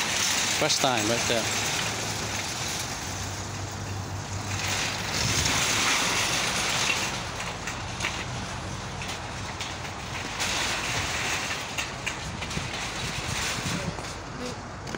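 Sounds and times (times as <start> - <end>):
low traffic hum: 0.0 - 14.9
rushing traffic noise: 0.0 - 14.9.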